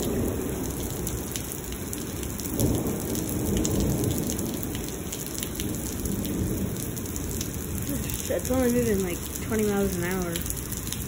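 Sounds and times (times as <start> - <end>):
heavy rain on pavement: 0.0 - 11.0
low rumble of thunder: 0.0 - 11.0.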